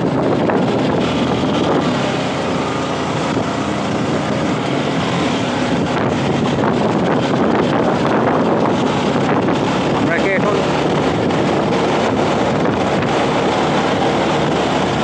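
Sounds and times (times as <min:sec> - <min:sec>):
motorcycle engine and tyre noise: 0:00.0 - 0:15.0
wind buffeting microphone: 0:00.0 - 0:15.0.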